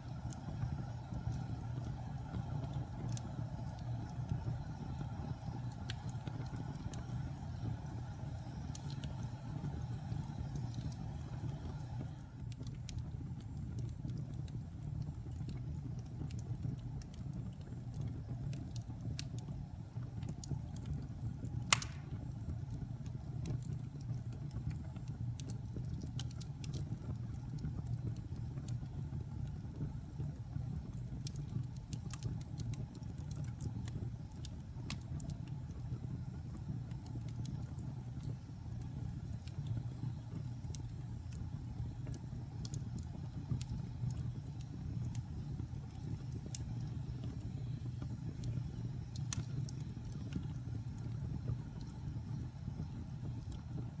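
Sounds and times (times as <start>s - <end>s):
fire pops and snaps: 0.0s - 54.0s
wood fire crackling: 0.0s - 54.0s.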